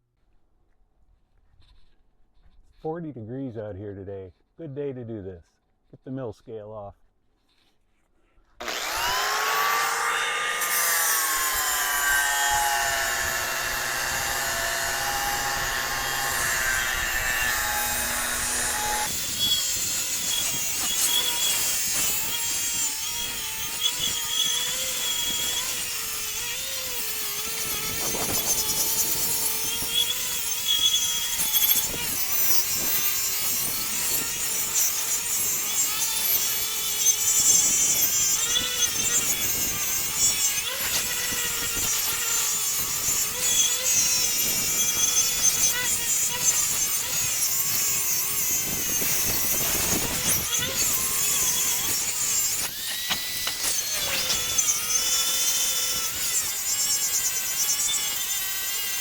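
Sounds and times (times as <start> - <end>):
angle grinder whining: 8.6 - 59.0
grinding on steel: 8.6 - 59.0.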